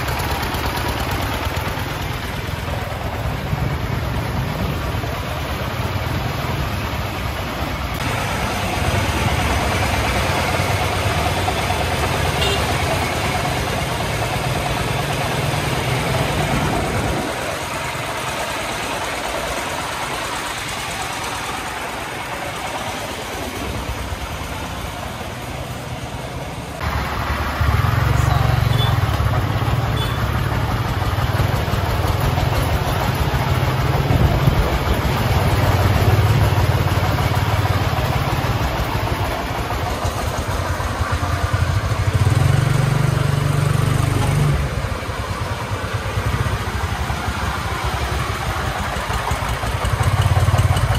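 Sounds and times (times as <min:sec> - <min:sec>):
diesel engine throbbing: 0:00.0 - 0:50.9
road and wind noise: 0:00.0 - 0:50.9.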